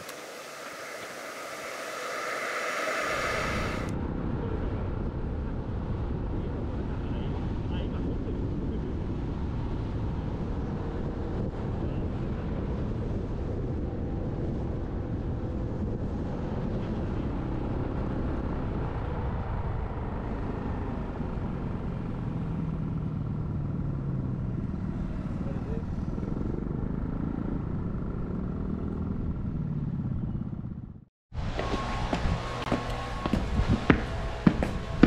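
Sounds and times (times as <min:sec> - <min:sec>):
rushing wind: 0:00.0 - 0:30.8, 0:31.4 - 0:35.0
motorcycle engine drone: 0:00.0 - 0:35.0
road noise: 0:00.0 - 0:35.0.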